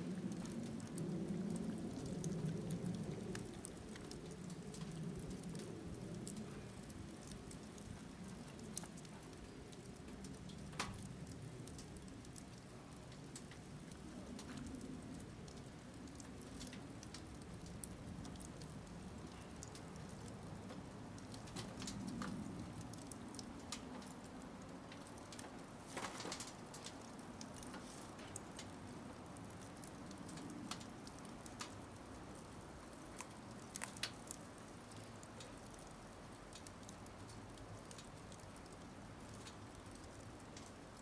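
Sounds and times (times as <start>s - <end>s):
firewood crackling and popping: 0.0s - 41.0s.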